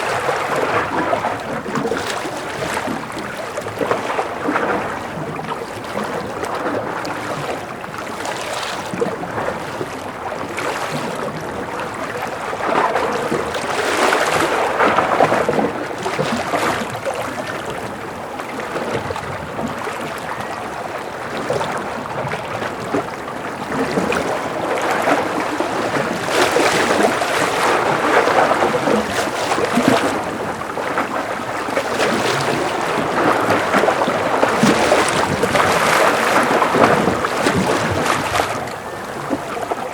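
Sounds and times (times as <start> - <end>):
ocean waves lapping: 0.0 - 39.9.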